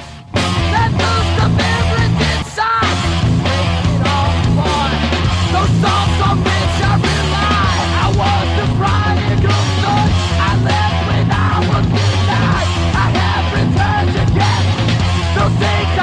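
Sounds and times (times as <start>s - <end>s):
punk metal rock music: 0.0s - 16.0s.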